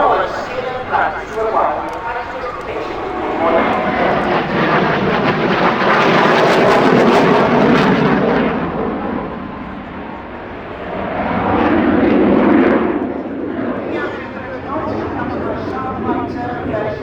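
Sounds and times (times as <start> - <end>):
jet flying overhead: 0.0 - 17.0.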